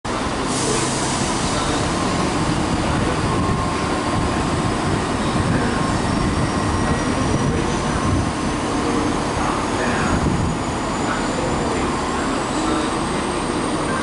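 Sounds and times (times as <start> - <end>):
train diesel engine rumble: 0.1 - 14.0.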